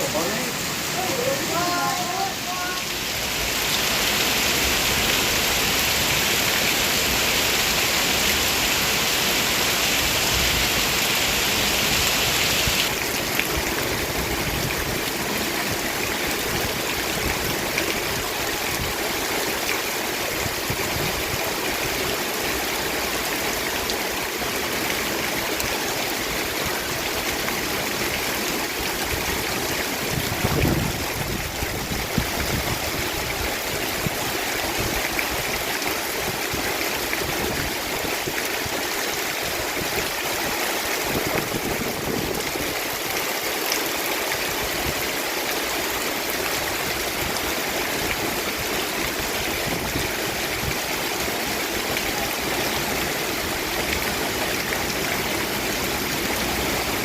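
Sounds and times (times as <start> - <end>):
heavy rain: 0.0 - 57.0
rushing water: 0.0 - 57.0.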